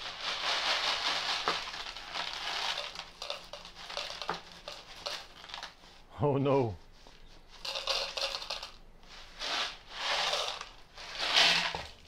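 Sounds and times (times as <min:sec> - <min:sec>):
kibble pouring into plastic bowl: 0:00.0 - 0:05.7, 0:07.6 - 0:12.0
plastic jug crinkling: 0:00.0 - 0:05.9, 0:07.1 - 0:12.0.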